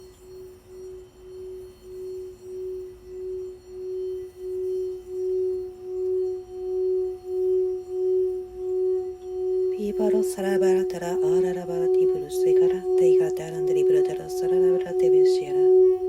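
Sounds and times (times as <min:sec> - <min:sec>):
singing bowl pulsing tone: 0:00.0 - 0:16.0.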